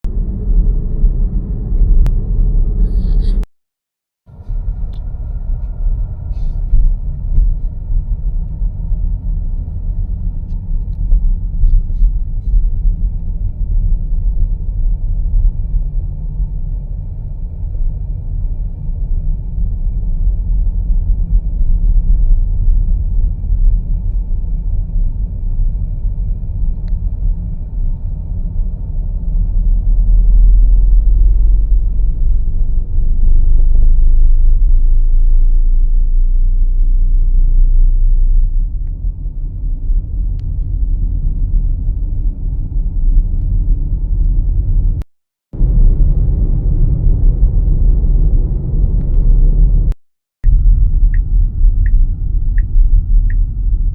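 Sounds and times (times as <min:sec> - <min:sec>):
vehicle driving rumble: 0:00.1 - 0:03.5, 0:04.3 - 0:45.0, 0:45.6 - 0:53.9.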